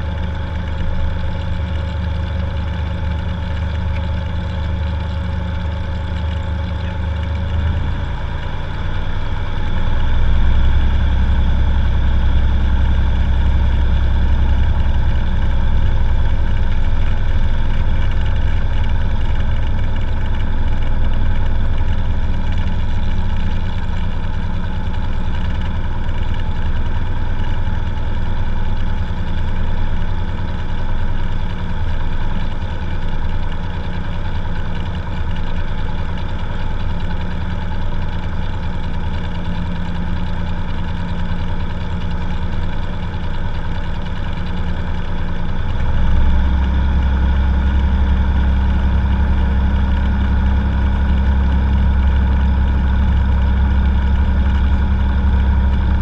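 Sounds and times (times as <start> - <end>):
propeller aircraft engine running: 0.0 - 56.0.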